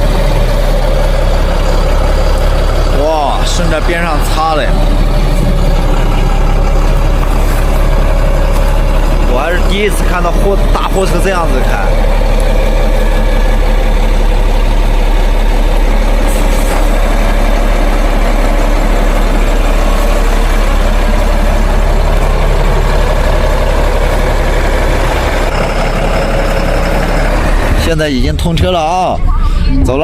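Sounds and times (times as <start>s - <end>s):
truck engine running at low revs: 0.0s - 30.0s.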